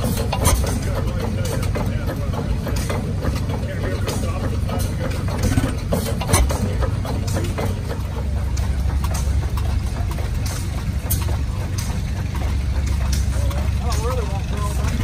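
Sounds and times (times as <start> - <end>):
hit-and-miss engine chugging: 0.0 - 15.0.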